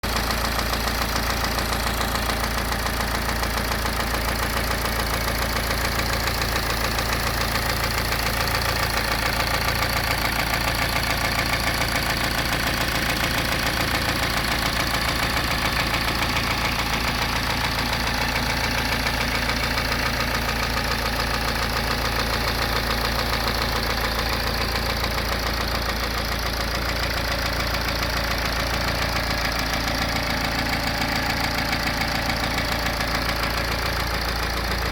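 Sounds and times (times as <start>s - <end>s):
diesel engine running: 0.0s - 34.9s
knocking inside engine: 0.0s - 34.9s.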